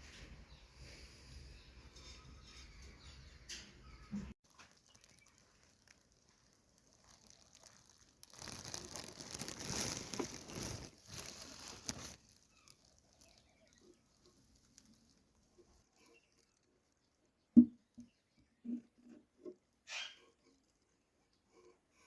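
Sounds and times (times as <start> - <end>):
rustling and scratching: 0.0 - 22.0.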